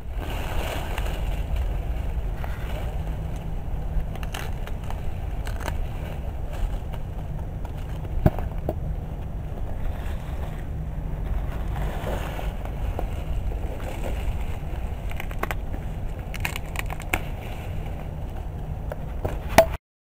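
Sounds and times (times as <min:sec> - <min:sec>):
wind rumbling on microphone: 0:00.0 - 0:19.8.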